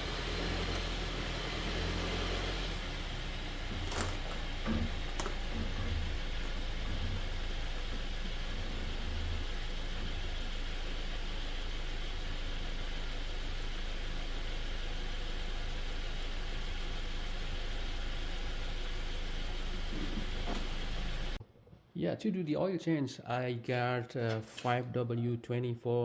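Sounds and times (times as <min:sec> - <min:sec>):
engine idling: 0:00.0 - 0:21.4.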